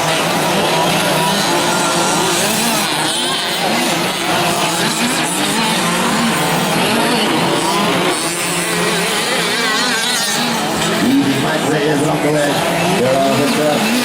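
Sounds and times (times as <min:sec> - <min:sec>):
two-stroke engines buzzing: 0:00.0 - 0:14.0.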